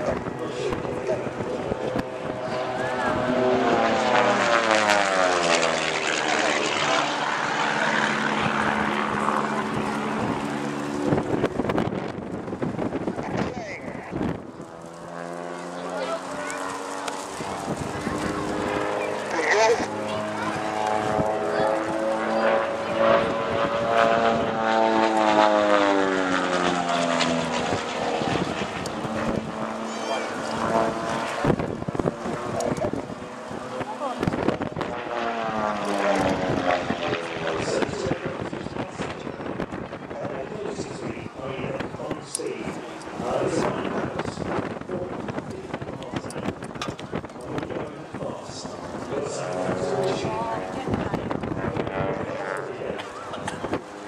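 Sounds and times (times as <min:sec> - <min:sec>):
propeller aircraft flying past: 0:00.0 - 0:54.0.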